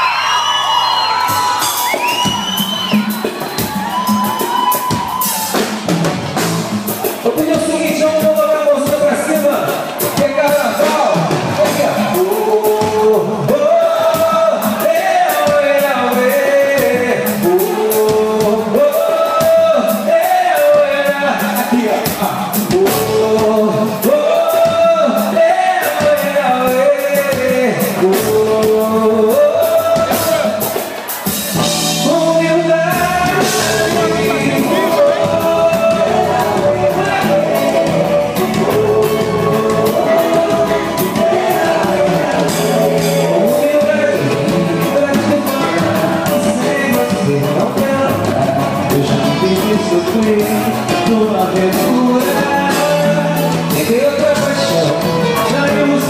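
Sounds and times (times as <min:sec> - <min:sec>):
live band music: 0:00.0 - 0:56.0
man singing: 0:07.0 - 0:56.0.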